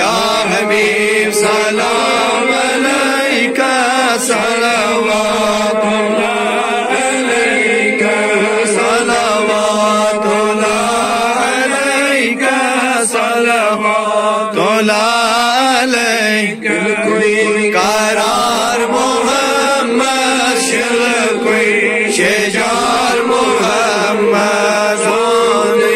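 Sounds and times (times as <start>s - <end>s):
lead male voice singing: 0.0s - 25.9s
men chanting: 0.0s - 25.9s.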